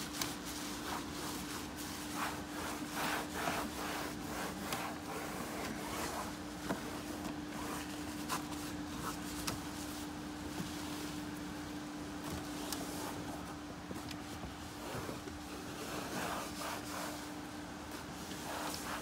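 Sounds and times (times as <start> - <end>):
damp rag scrubbing plastic: 0.0 - 11.3, 12.2 - 19.0
steady low hum: 0.0 - 19.0.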